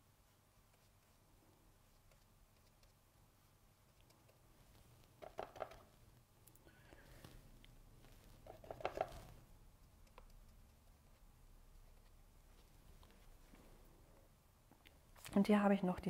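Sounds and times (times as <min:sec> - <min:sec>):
paintbrush dabbing and mixing paint: 0:00.0 - 0:15.3.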